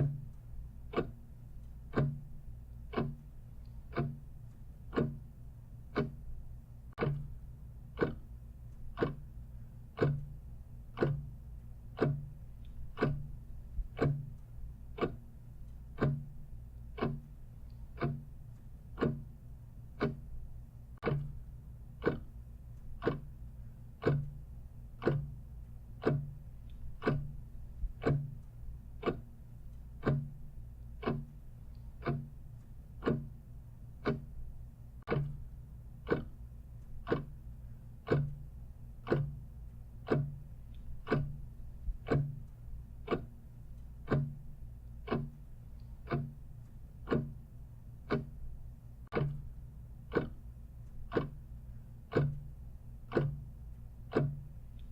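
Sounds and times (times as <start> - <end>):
clock ticking: 0.0 - 54.9
low steady hum: 0.0 - 54.9.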